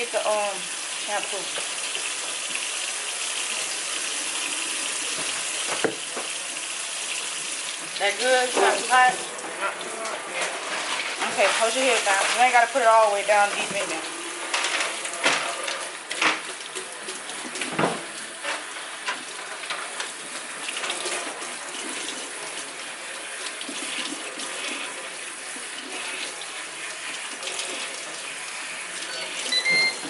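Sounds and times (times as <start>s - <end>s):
tap water running over hair: 0.0s - 30.0s.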